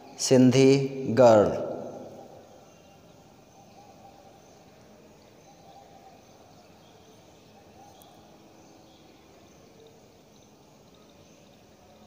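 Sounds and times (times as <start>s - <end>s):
low background hiss: 0.0s - 12.0s
faint high chirps: 1.6s - 12.0s.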